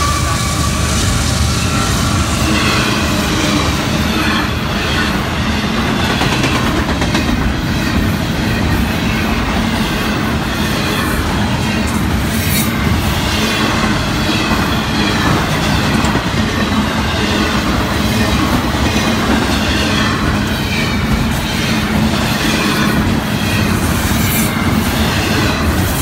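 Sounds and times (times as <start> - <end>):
freight train passing at speed: 0.0 - 26.0
rumble of wheels on rail: 0.0 - 26.0.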